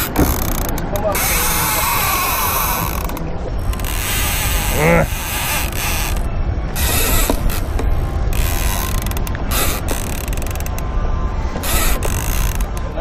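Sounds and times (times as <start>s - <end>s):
fishing reel ratchet clicking: 0.0s - 7.8s, 8.4s - 10.8s, 11.6s - 12.8s.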